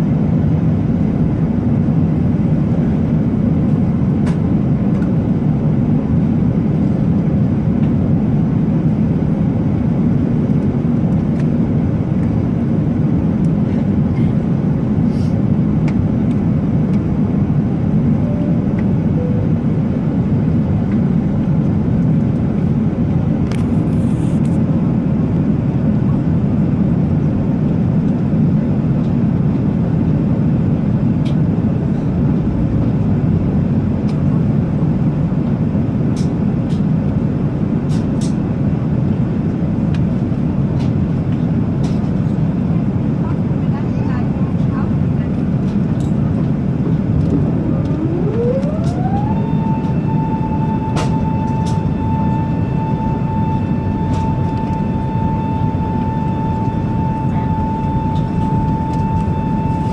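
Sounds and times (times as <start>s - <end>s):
airplane in flight rumble: 0.0s - 59.9s.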